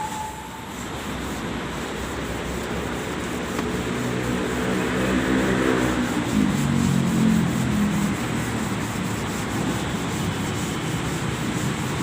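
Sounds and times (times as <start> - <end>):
sanding car bodywork: 0.0 - 12.0.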